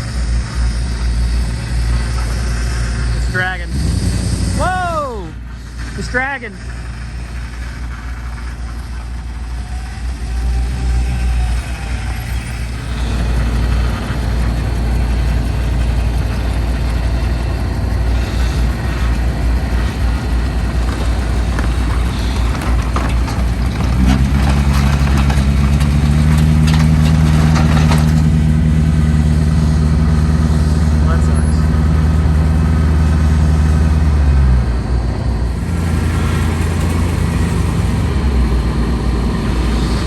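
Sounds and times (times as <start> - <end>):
deep steady engine drone: 0.0 - 40.0
road noise: 0.0 - 40.0
vehicle engine while driving: 0.0 - 40.0.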